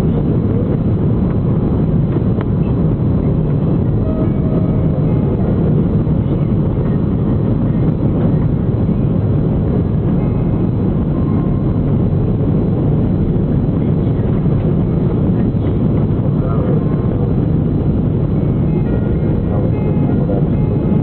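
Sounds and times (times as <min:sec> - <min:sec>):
jet airliner cabin rumble: 0:00.0 - 0:21.0.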